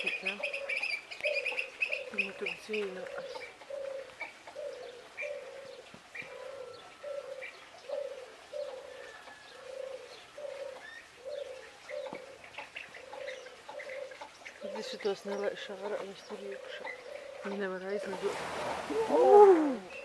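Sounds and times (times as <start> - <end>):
bird cooing: 0.0 - 20.0
small birds chirping: 0.0 - 20.0.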